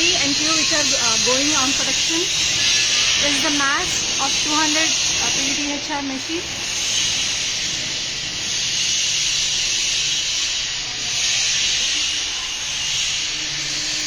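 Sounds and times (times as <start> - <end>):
steady loud hiss: 0.0 - 14.0.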